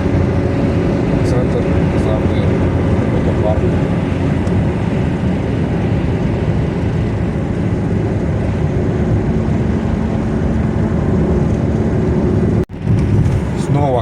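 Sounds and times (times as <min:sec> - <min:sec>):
faint constant drone: 0:00.0 - 0:13.8
car engine and road noise: 0:00.0 - 0:14.0.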